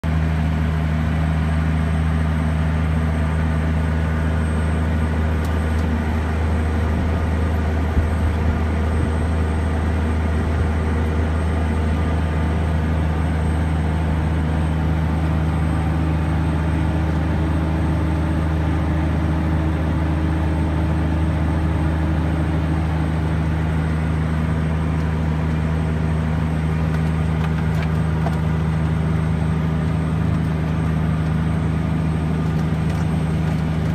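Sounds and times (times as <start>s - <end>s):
tractor diesel engine drone: 0.0s - 33.9s.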